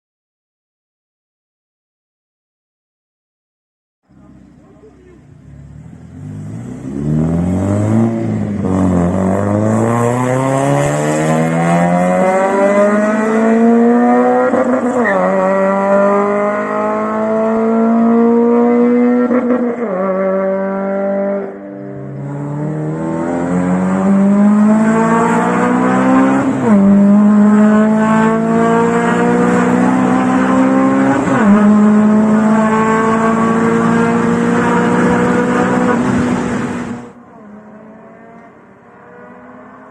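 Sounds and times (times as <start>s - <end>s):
car engine revving hard: 5.1s - 39.9s.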